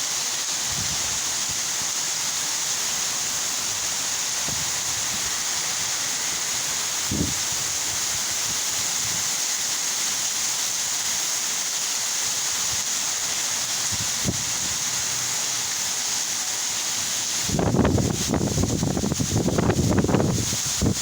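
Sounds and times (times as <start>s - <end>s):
torrential rain pouring: 0.0s - 21.0s.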